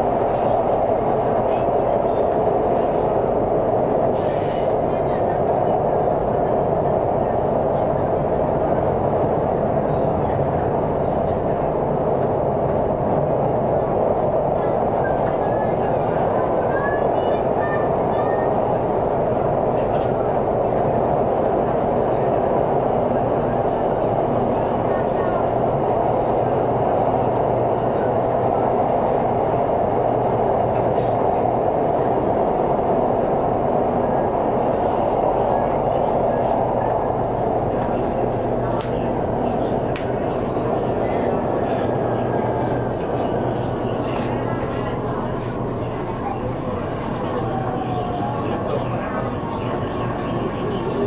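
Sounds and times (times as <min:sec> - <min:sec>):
train wheels on track: 0:00.0 - 0:51.0.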